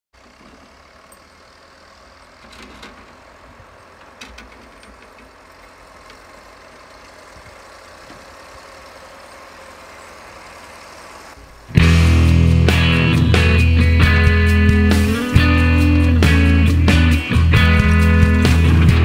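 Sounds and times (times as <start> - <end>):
distant tractor engine running: 0.2 - 19.0.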